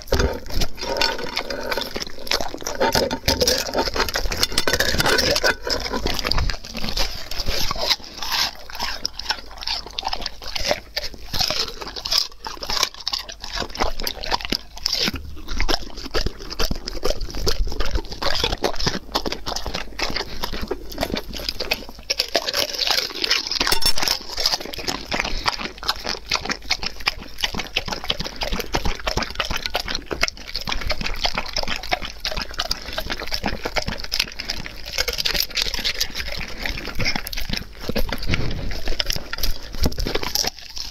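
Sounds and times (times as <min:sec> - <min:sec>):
dog eating wet smacking chews: 0:00.0 - 0:40.9.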